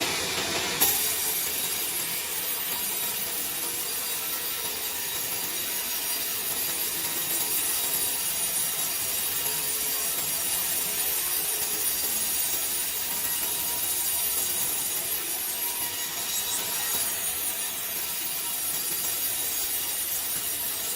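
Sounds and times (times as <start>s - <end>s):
woodworking machine cutting wood: 0.0s - 20.9s.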